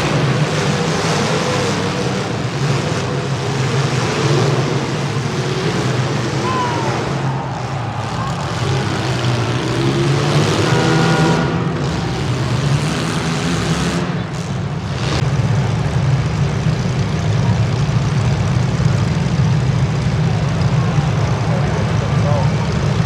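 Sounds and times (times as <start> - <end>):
car engines rumbling: 0.0 - 23.0.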